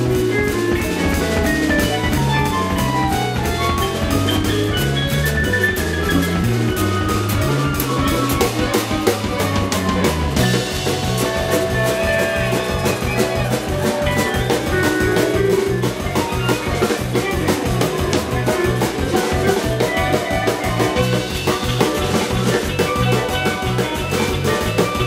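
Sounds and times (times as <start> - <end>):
drum kit steady beat: 0.0 - 25.0
fiddle: 0.0 - 25.0
guitar: 0.0 - 25.0.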